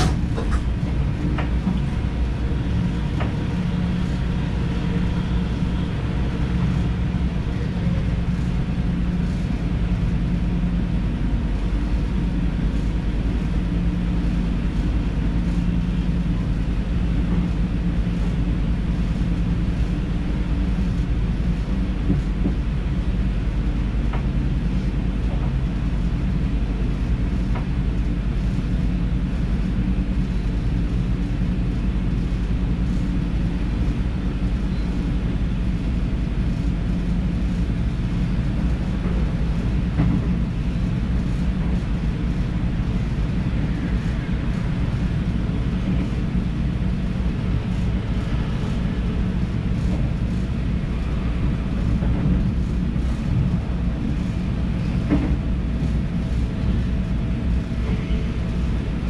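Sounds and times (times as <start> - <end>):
electric train running rumble: 0.0 - 59.0.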